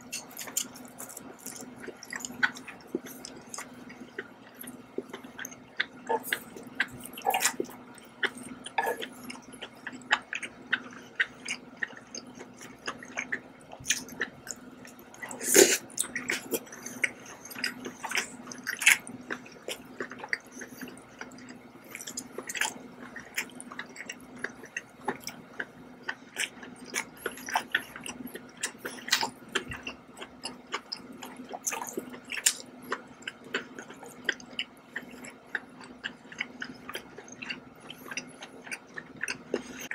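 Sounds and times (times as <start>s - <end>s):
wet chewing and mouth smacks: 0.0s - 39.9s.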